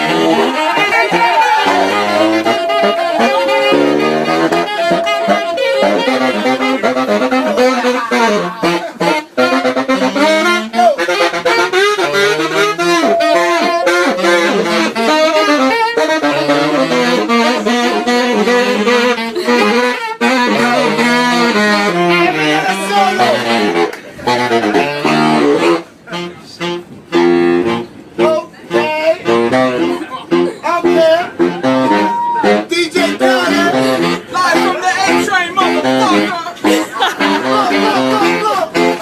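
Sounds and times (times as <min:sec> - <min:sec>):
saxophone playing jazz runs: 0:00.0 - 0:39.0.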